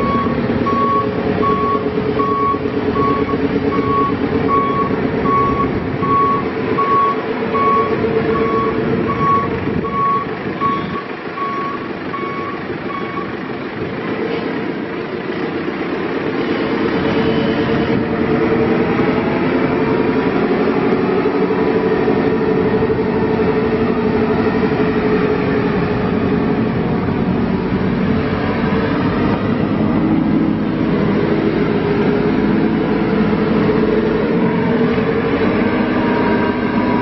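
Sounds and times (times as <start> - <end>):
backhoe diesel engine running: 0.0 - 37.0.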